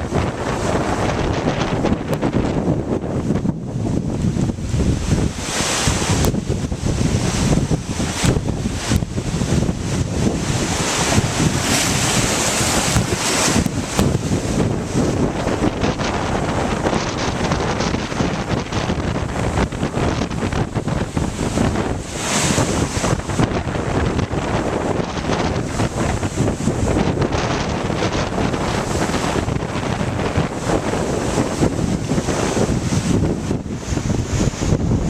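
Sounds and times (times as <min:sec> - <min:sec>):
lake waves washing: 0:00.0 - 0:35.0
wind buffeting microphone: 0:00.0 - 0:35.0.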